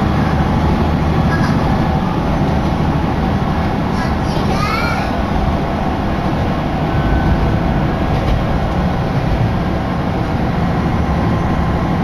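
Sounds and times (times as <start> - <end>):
diesel engine drone: 0.0 - 12.0
wheels rumbling on track: 0.0 - 12.0.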